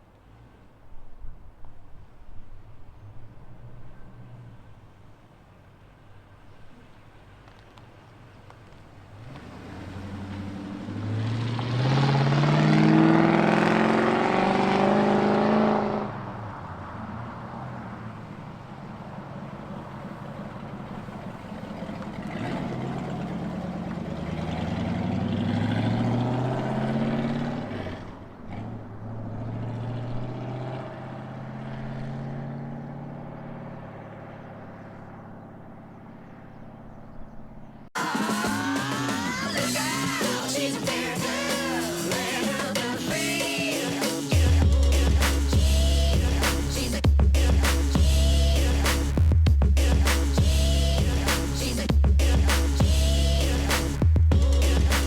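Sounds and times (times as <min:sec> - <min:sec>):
car engines revving and accelerating: 0:08.4 - 0:55.0.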